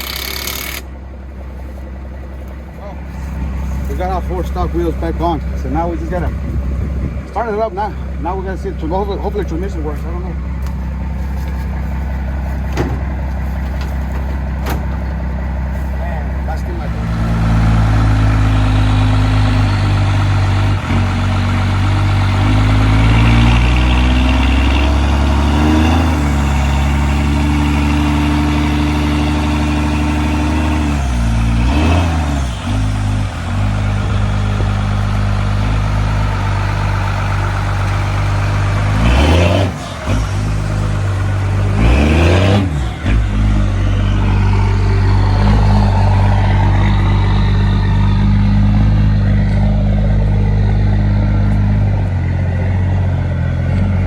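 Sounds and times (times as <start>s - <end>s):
pickup truck engine revving: 2.0s - 54.0s.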